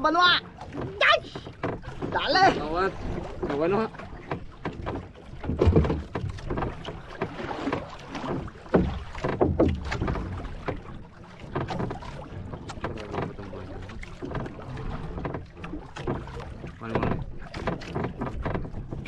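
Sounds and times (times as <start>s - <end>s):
knocks and splashes: 0.0s - 19.0s
water slapping boat hull: 0.0s - 19.0s.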